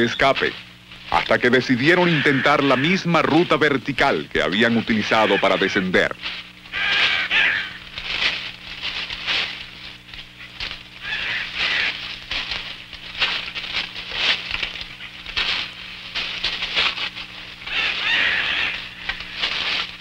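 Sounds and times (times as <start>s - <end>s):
leaves and branches rustling: 0.0s - 20.0s
steady low hum: 0.0s - 20.0s.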